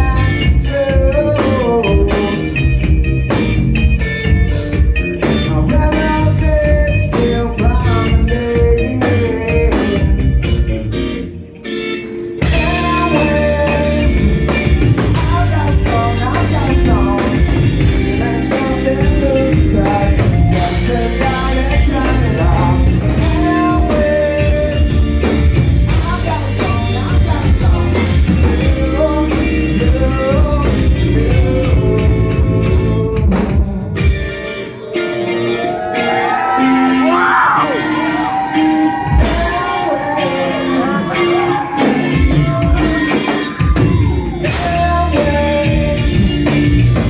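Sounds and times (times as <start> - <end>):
person singing: 0.0 - 2.8, 5.2 - 10.5, 12.4 - 47.0
live band playing loud music: 0.0 - 47.0.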